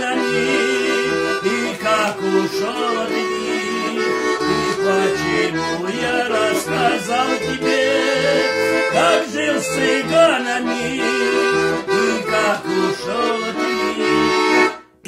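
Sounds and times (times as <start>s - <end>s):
accordion playing: 0.0s - 15.0s.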